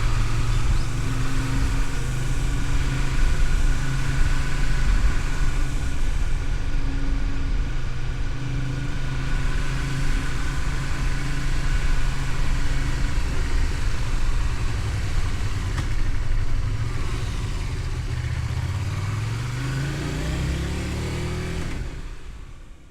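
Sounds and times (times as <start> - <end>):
motorcycle engine running: 0.0 - 22.9
road noise: 0.0 - 22.9.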